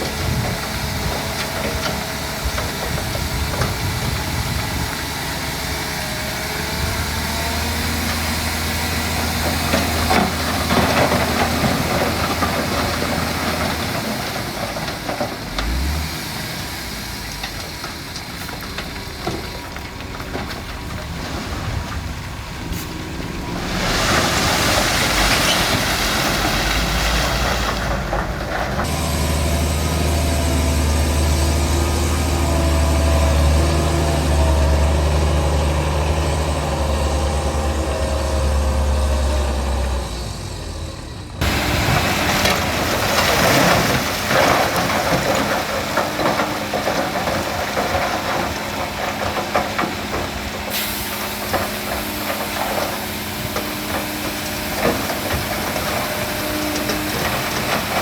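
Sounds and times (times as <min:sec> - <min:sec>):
diesel machinery engines humming: 0:00.0 - 0:58.0.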